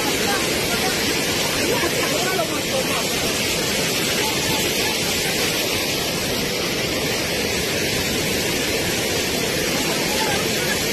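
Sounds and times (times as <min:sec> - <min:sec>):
floodwater rushing: 0:00.0 - 0:10.9.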